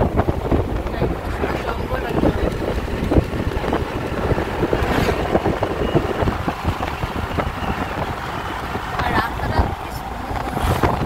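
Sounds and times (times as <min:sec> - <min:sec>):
car road and engine noise: 0:00.0 - 0:11.0
wind gusting on microphone: 0:00.0 - 0:11.0.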